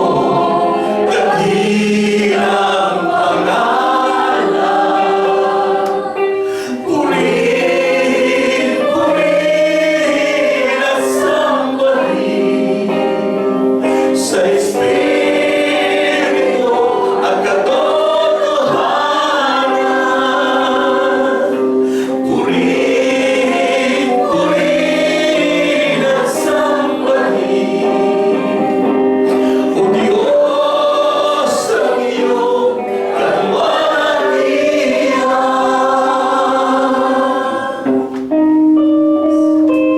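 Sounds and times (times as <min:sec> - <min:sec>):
congregation singing: 0:00.0 - 0:39.9
instrumental accompaniment: 0:00.0 - 0:39.9.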